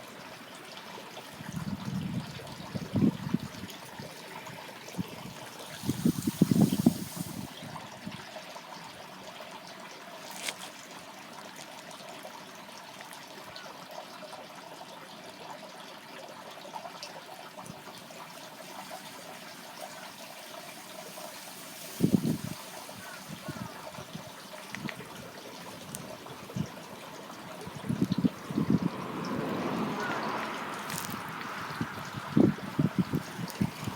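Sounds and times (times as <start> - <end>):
water rushing through a canal: 0.0 - 33.9.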